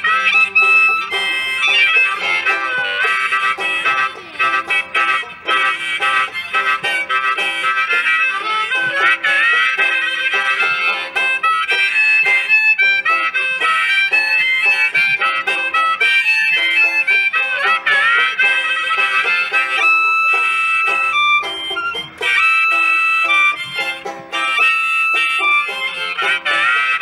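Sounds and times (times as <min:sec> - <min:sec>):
banjo picking: 0:00.0 - 0:27.0
harmonicas playing: 0:00.0 - 0:27.0.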